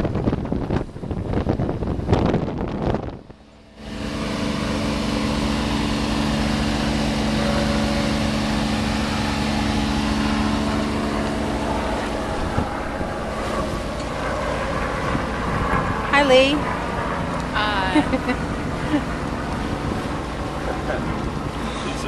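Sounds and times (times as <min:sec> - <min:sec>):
boat engine running: 0:00.0 - 0:22.0
water noise: 0:00.0 - 0:22.0
wind: 0:00.0 - 0:22.0.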